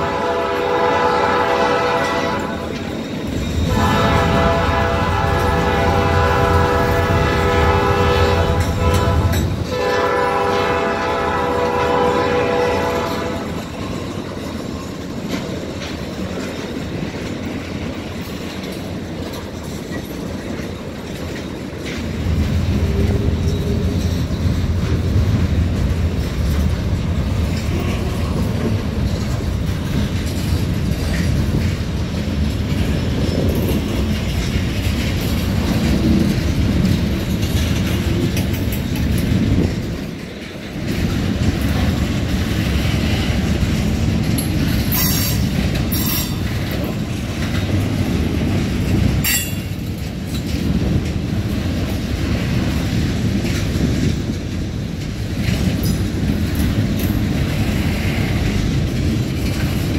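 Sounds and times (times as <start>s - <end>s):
train wheels rumbling over rail joints: 0.0s - 59.9s.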